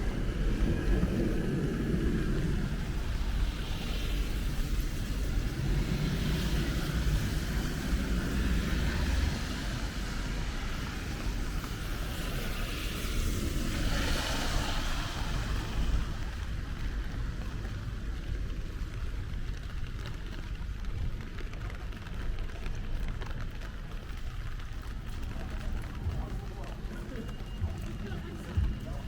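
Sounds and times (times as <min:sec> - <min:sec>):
low rumble of vehicles: 0:00.0 - 0:29.0
tyre and rain hiss: 0:00.0 - 0:29.0.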